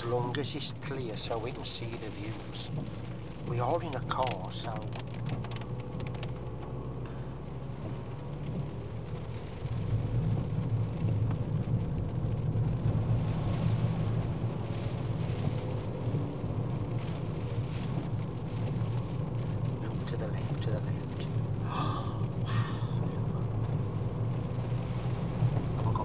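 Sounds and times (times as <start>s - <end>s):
car road and engine noise: 0.0s - 26.0s
rain on car: 0.0s - 26.0s.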